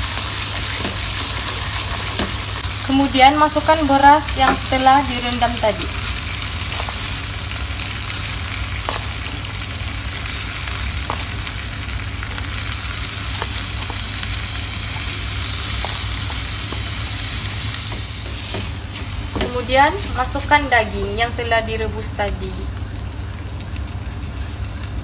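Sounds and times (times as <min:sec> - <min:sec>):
rice sizzling in a wok: 0:00.0 - 0:25.0.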